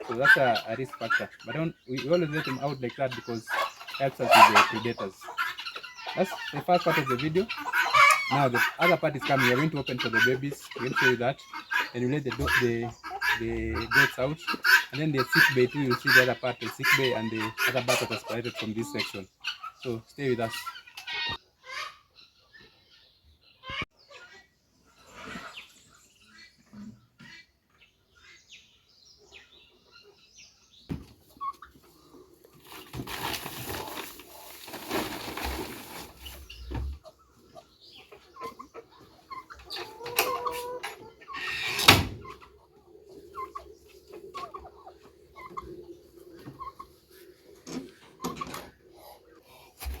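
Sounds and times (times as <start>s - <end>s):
chickens clucking and chirping: 0.0s - 50.0s.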